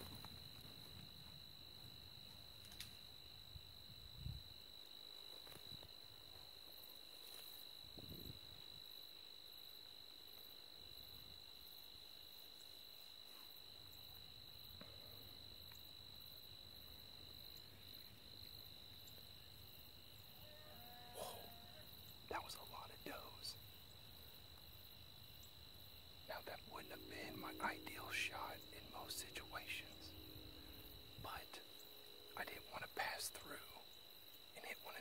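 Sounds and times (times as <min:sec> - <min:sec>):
high insect trill: 0:00.0 - 0:35.0.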